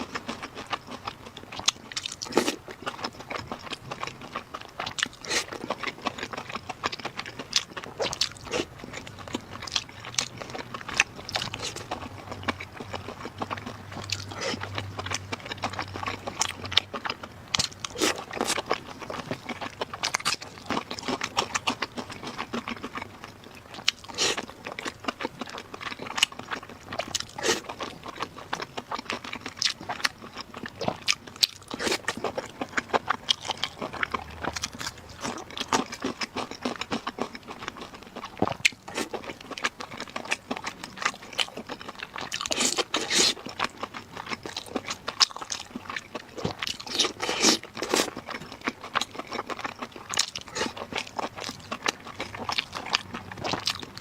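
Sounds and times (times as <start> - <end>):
person chewing and biting: 0.0 - 54.0.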